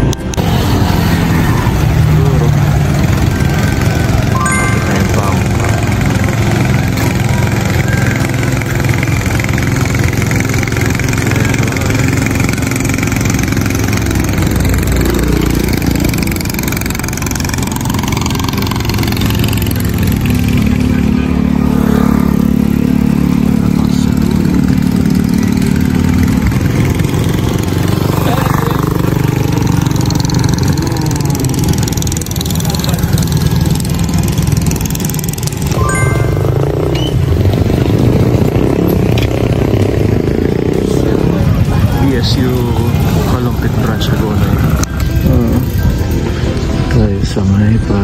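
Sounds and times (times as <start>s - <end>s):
boat engine running: 0.0s - 40.6s.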